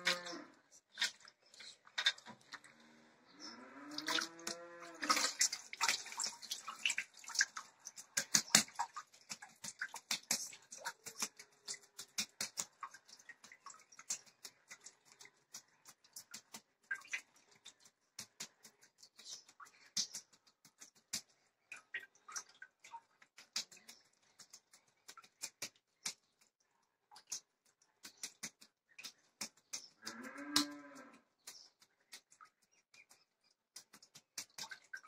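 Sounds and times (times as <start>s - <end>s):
hands squelching butter: 0.0s - 2.8s, 4.0s - 35.0s
drips falling into pot: 3.9s - 35.0s.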